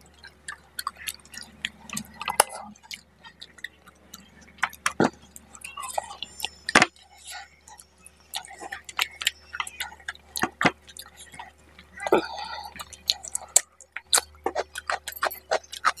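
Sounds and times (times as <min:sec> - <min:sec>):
wet chewing: 0:00.0 - 0:16.0
mouth clicks and lip smacks: 0:00.1 - 0:16.0.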